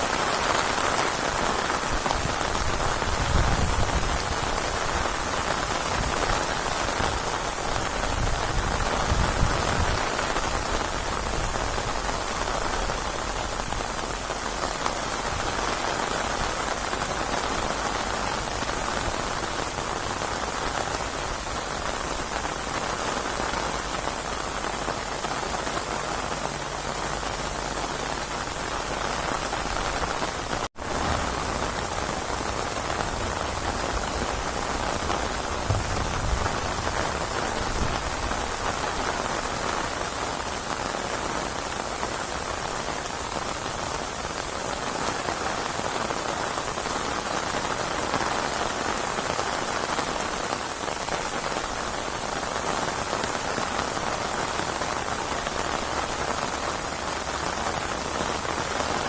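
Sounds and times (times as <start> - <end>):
dense rain pattering: 0.0 - 59.0.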